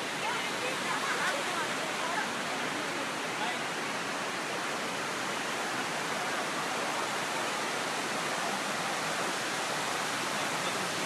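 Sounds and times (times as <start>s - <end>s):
water cascading: 0.0s - 11.0s.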